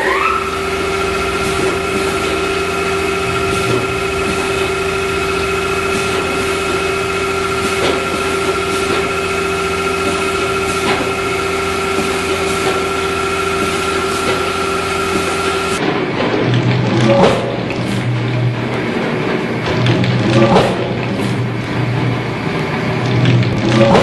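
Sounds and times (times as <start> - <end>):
machine hum with steady tones: 0.0 - 24.0.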